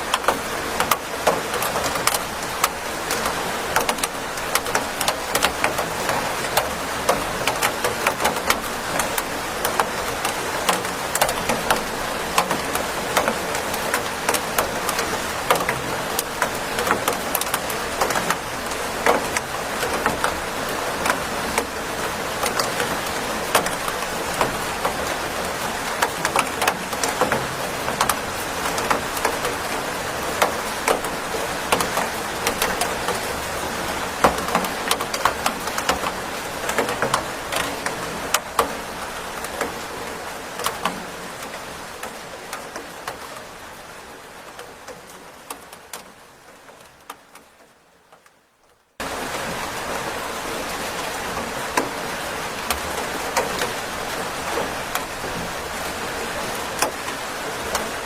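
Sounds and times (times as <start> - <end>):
raindrops tapping: 0.0 - 58.0
steady rain: 0.0 - 58.0.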